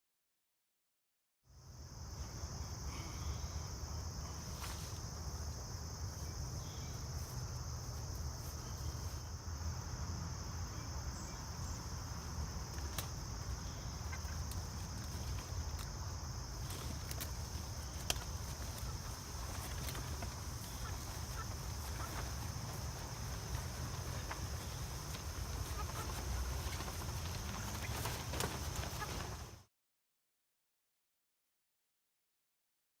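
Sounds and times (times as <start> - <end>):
insect chorus: 1.5 - 29.7.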